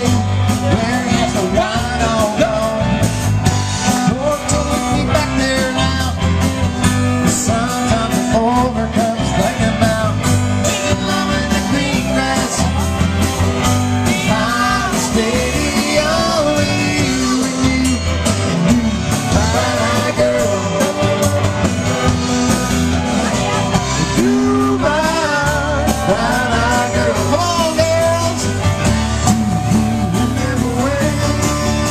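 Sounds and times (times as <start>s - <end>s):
drums: 0.0s - 31.9s
electric bass: 0.0s - 31.9s
man singing: 0.0s - 31.9s
strummed acoustic guitar: 0.0s - 31.9s.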